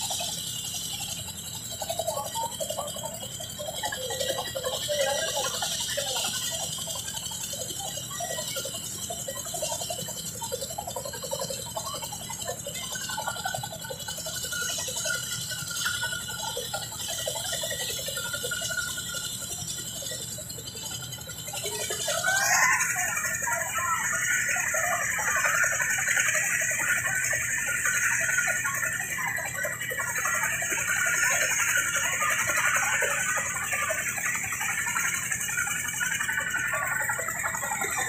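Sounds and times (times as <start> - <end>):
crowd voices: 0.0 - 38.0
helicopter rotors droning: 0.0 - 38.0.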